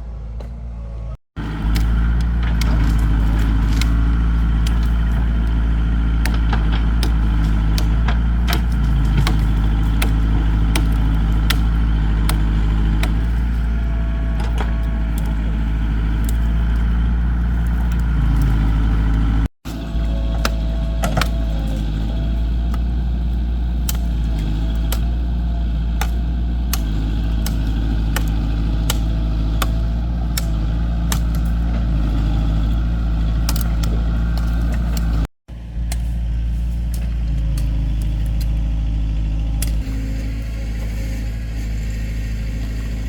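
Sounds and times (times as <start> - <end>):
heavy engine rumbling: 0.0 - 43.0.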